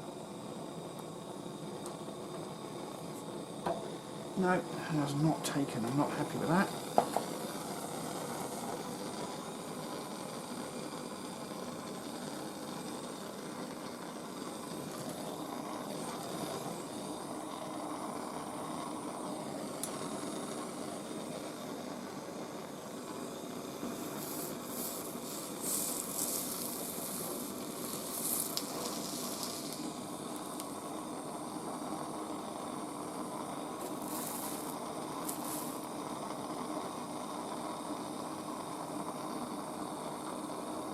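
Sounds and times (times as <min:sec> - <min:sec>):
blowtorch flame hissing: 0:00.0 - 0:40.9.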